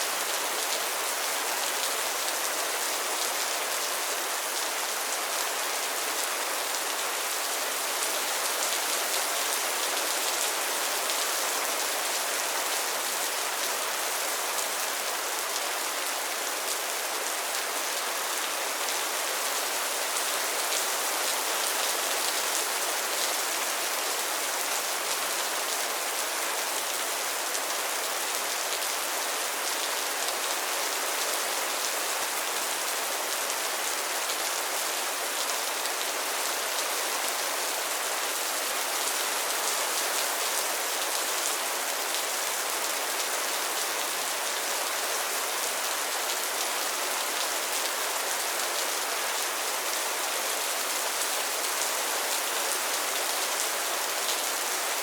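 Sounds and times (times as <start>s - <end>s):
rain on pond water: 0.0s - 55.0s.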